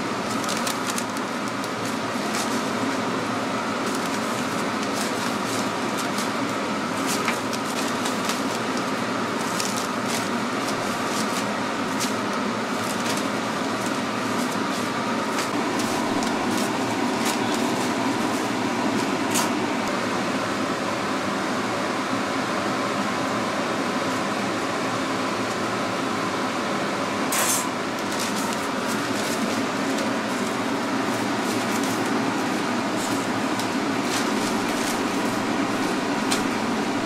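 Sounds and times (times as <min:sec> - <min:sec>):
kitchen machinery humming: 0:00.0 - 0:37.0.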